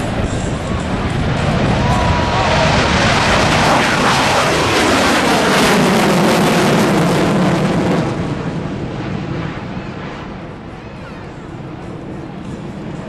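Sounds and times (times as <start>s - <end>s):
fighter jet roaring past: 0.0s - 12.2s.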